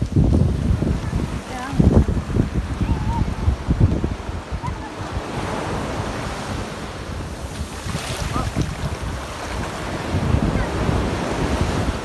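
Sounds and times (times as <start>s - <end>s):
small waves washing over sand: 0.0s - 12.0s
wind rumbling on microphone: 0.0s - 12.0s.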